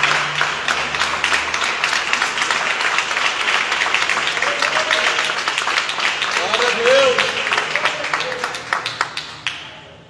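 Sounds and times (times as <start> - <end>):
crowd clapping: 0.0 - 10.0.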